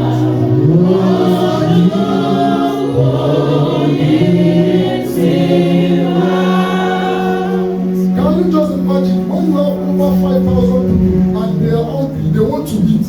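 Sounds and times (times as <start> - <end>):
choir singing a hymn: 0.0 - 11.5
sustained low note: 0.0 - 12.9.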